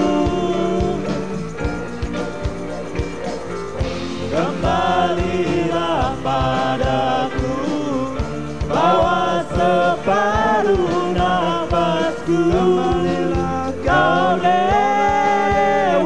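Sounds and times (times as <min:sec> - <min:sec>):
live band playing pop-rock: 0:00.0 - 0:16.0
steady drum beat: 0:00.0 - 0:16.0.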